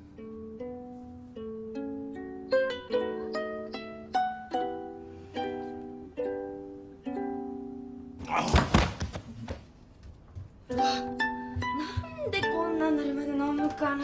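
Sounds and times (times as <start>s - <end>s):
plucked-string melody: 0.0s - 8.2s, 10.5s - 14.0s.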